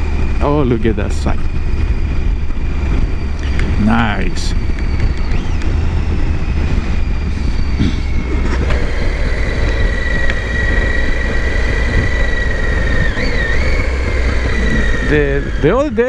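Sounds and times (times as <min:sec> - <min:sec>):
high-pitched whine: 0:00.0 - 0:16.0
motorcycle engine and road noise: 0:00.0 - 0:16.0.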